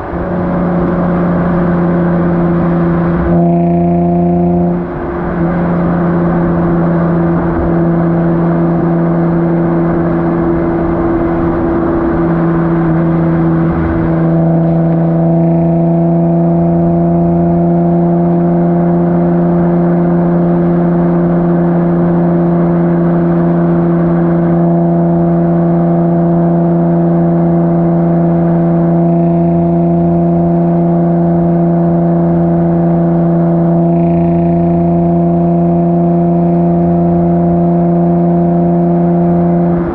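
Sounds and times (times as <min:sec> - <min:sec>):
car exhaust droning: 0:00.0 - 0:39.9.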